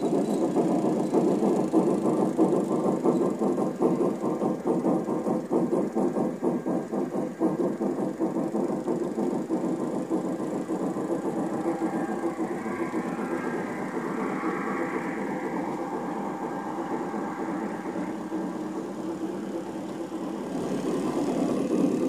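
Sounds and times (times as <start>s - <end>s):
model train running hum: 0.0s - 22.0s
train wheels clicking over track: 0.0s - 22.0s.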